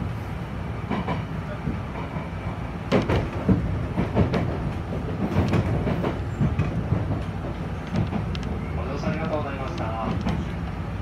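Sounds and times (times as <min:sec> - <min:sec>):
electric train rumbling: 0:00.0 - 0:11.0
wheels clacking over rail joints: 0:00.8 - 0:10.8.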